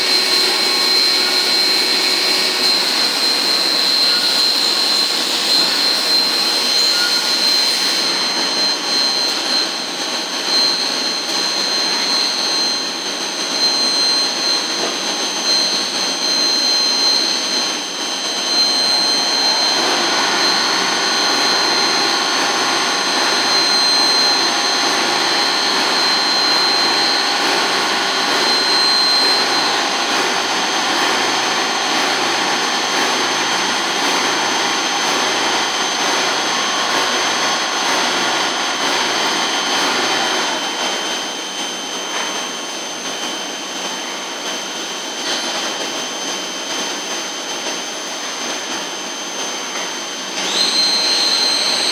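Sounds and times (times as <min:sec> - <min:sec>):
high-pitched machine whines: 0:00.0 - 0:51.9
lathe machine running: 0:00.0 - 0:51.9.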